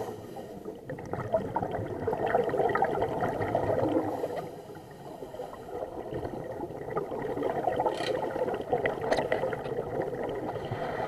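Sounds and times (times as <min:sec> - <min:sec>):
muffled underwater bubbling: 0:00.0 - 0:11.0.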